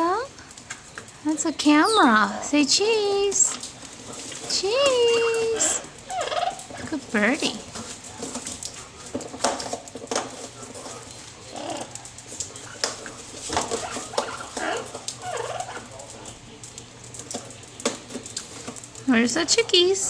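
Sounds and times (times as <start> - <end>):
birds tapping and rustling in cage: 0.4 - 20.0.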